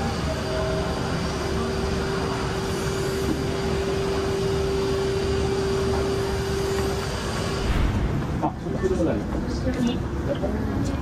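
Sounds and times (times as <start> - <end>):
mechanical rumble and hum: 0.0 - 11.0.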